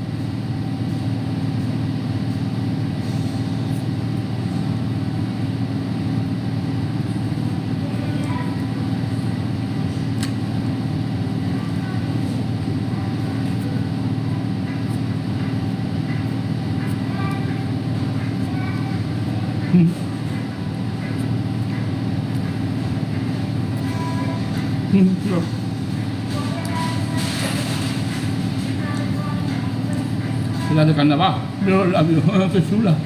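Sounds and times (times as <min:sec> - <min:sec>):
low mechanical rumble with hum: 0:00.0 - 0:33.0.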